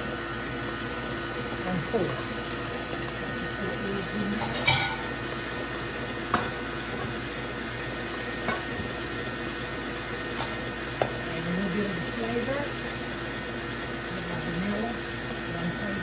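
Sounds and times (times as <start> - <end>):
electric stand mixer running: 0.0 - 16.0.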